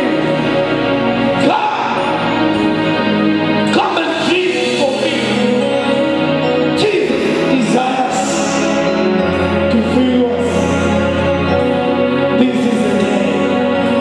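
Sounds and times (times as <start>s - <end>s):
gospel singing: 0.0s - 14.0s
sustained chords and bass note: 0.0s - 14.0s.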